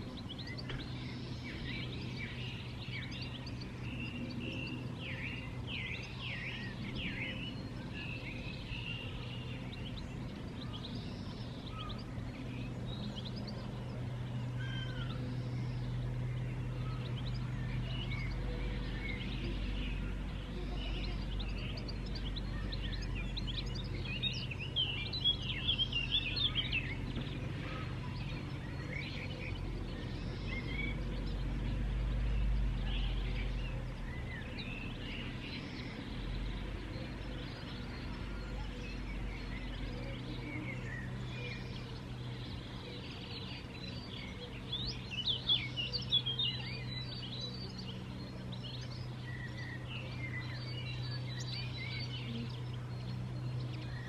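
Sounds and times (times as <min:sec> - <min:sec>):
birds chirping and singing: 0:00.0 - 0:54.0
steady low hum: 0:00.0 - 0:54.0.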